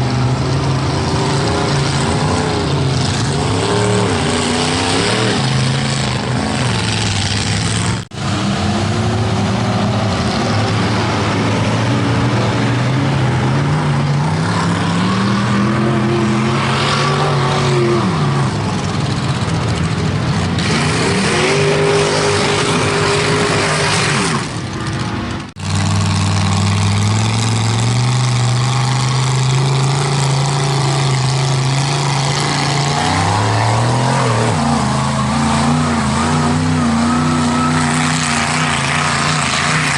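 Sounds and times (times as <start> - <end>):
heavy rushing noise: 0.0 - 39.9
truck engine revving: 0.0 - 39.9.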